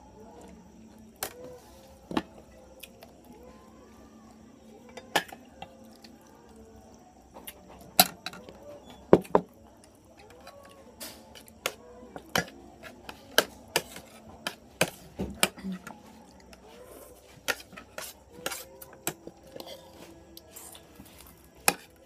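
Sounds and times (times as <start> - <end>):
faint voices: 0.0 - 22.0.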